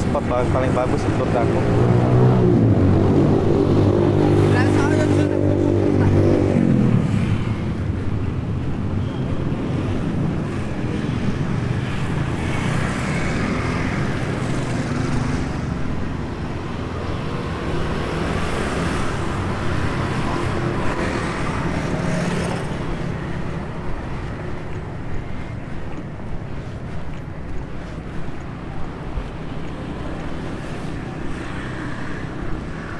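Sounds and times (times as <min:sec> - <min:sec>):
road traffic passing: 0:00.0 - 0:32.9.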